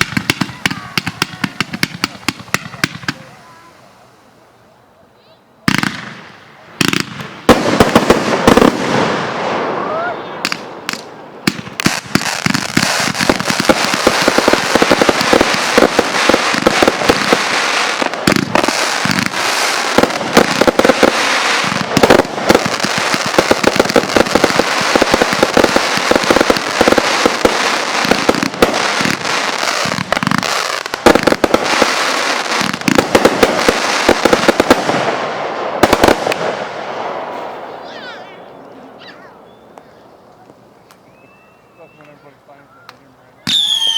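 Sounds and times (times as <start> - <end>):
fireworks bangs: 0.0 - 4.2, 5.6 - 41.2
fireworks crackling and popping: 0.0 - 4.4, 5.7 - 38.1.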